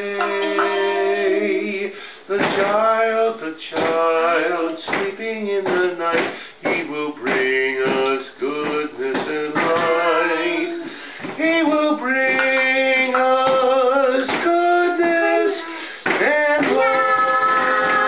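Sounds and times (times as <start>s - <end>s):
man singing solo: 0.0s - 18.0s.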